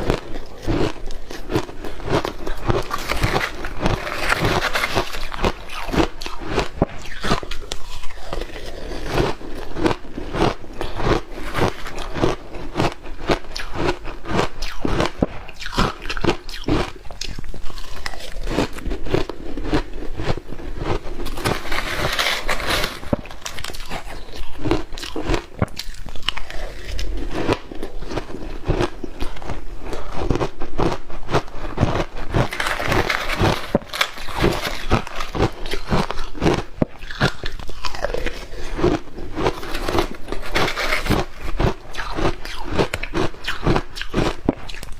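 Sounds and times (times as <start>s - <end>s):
biting and crunching ice: 0.0s - 44.9s.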